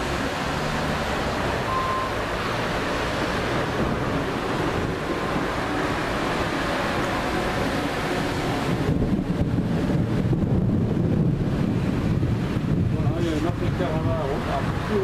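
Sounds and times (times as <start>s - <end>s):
heavy rain: 0.0s - 15.0s
wind noise on microphone: 0.0s - 15.0s
wind rushing: 0.0s - 15.0s.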